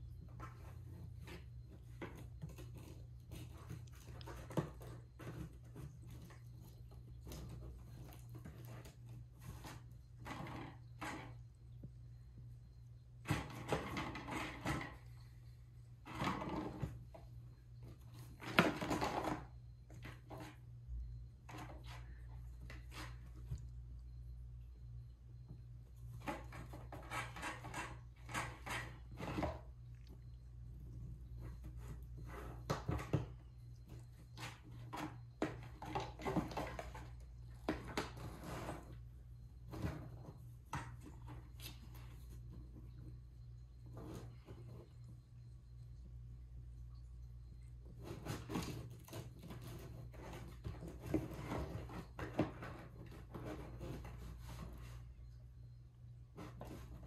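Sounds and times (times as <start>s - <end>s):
cat scratching cardboard: 0.0s - 12.4s, 13.2s - 24.3s, 25.4s - 45.2s, 47.8s - 55.2s, 56.3s - 57.0s
steady low hum: 0.0s - 57.0s.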